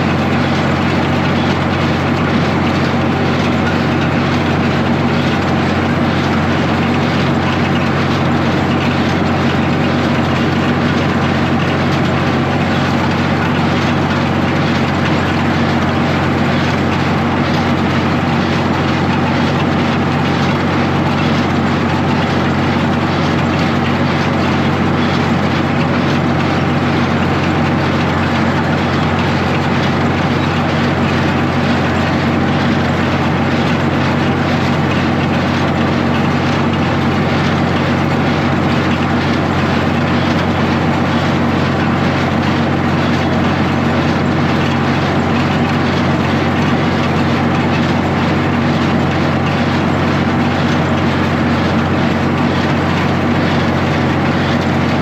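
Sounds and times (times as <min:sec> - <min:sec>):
hay baler working: 0:00.0 - 0:55.0
tractor engine running under load: 0:00.0 - 0:55.0.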